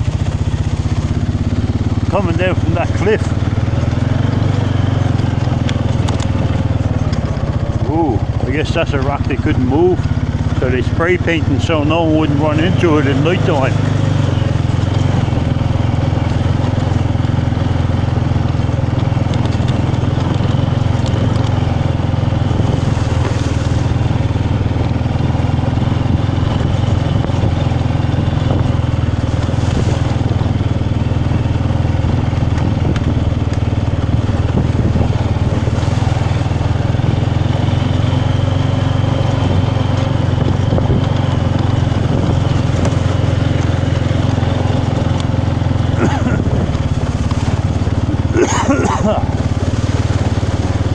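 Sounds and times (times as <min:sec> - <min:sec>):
motorbike engine droning: 0:00.0 - 0:50.9.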